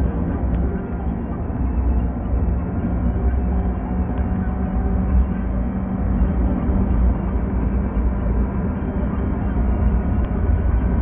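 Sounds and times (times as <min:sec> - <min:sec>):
car driving interior noise: 0:00.0 - 0:11.0
constant low hum: 0:00.0 - 0:11.0.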